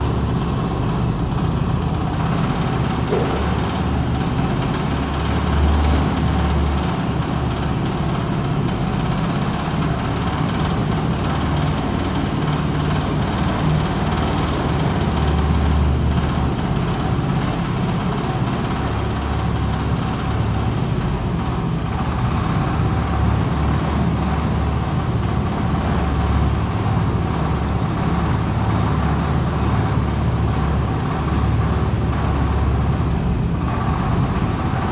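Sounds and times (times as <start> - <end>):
concrete mixer engine running: 0.0 - 34.9.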